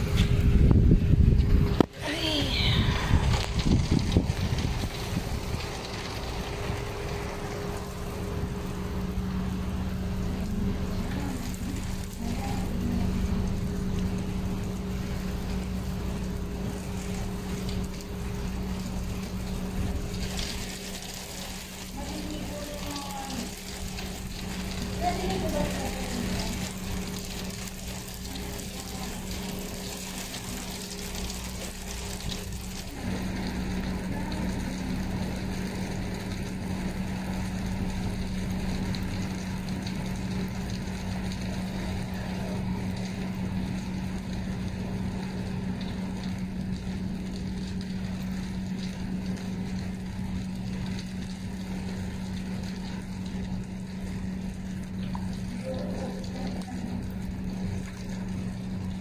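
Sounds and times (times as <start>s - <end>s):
constant low hum: 0.0s - 59.0s
rain on wet paving: 0.0s - 59.0s.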